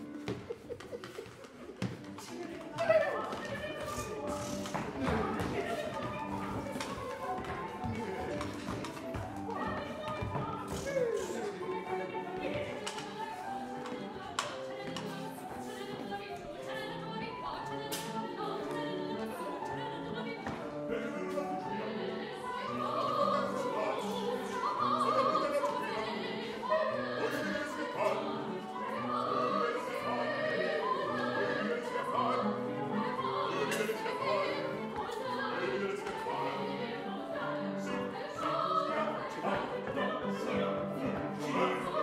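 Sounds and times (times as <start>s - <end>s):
women singing opera: 1.2s - 42.0s.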